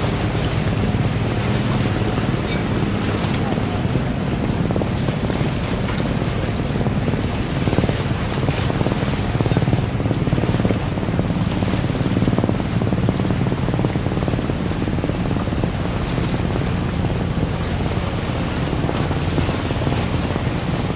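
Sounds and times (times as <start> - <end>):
water washing: 0.0 - 20.9
wind: 0.0 - 20.9.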